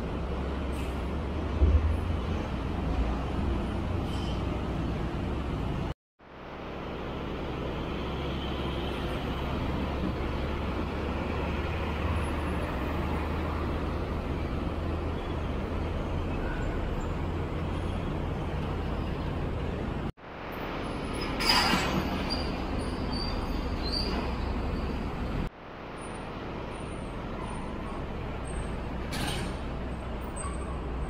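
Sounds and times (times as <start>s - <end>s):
trucks and traffic passing: 0.0s - 31.0s.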